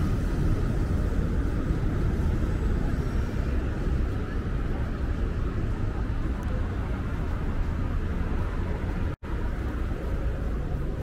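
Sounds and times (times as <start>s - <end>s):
cars idling and moving: 0.0s - 11.0s
low traffic rumble: 0.0s - 11.0s.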